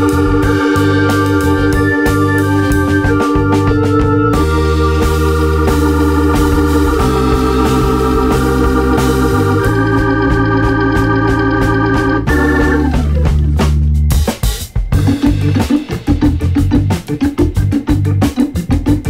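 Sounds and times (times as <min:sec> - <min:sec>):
light steady beat: 0:00.0 - 0:19.0
organ-like keyboard chords: 0:00.0 - 0:19.0.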